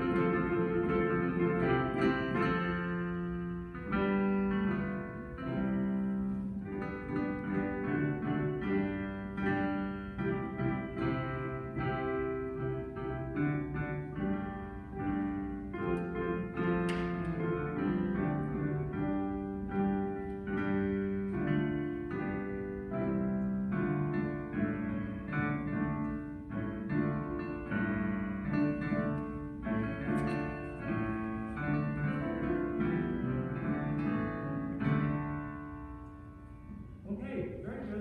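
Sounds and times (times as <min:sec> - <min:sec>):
piano chords: 0:00.0 - 0:38.0.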